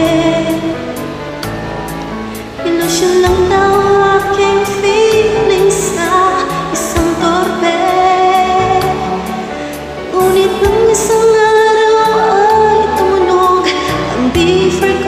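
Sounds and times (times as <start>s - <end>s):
woman singing into a microphone: 0.0s - 1.2s, 2.6s - 15.0s
karaoke backing track with beat: 0.0s - 15.0s.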